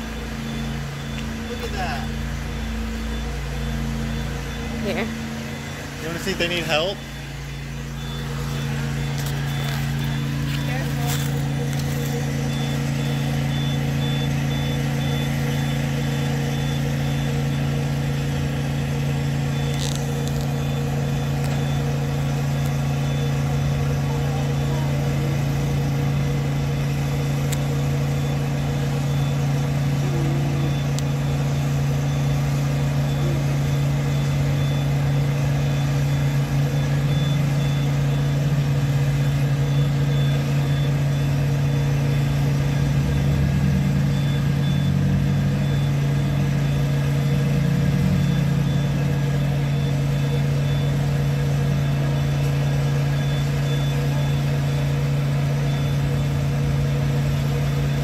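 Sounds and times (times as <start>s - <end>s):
engine humming: 0.0s - 58.0s
faint high beep: 0.0s - 58.0s.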